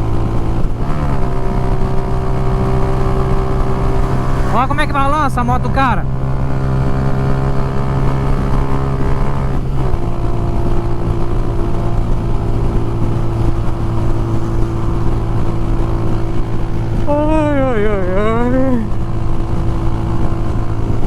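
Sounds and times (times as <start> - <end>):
motorcycle engine running: 0.0 - 21.0
wind buffeting: 0.0 - 21.0.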